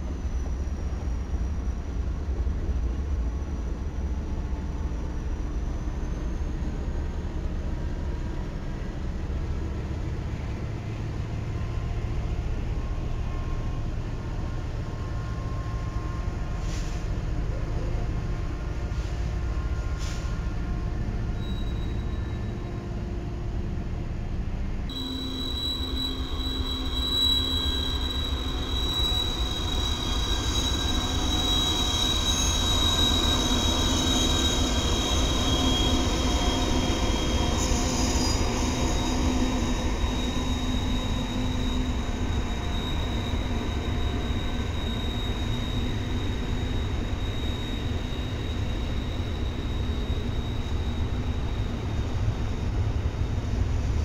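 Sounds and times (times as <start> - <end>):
rumble of train cars: 0.0 - 54.0
train wheels squealing: 0.0 - 54.0.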